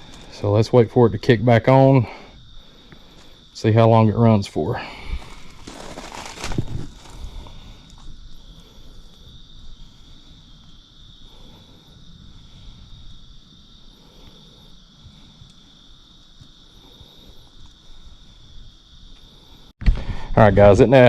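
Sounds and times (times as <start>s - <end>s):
insects trilling: 0.0s - 19.8s.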